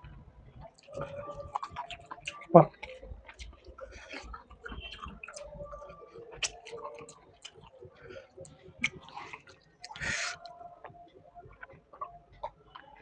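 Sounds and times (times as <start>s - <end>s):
person chewing food: 0.6s - 13.0s.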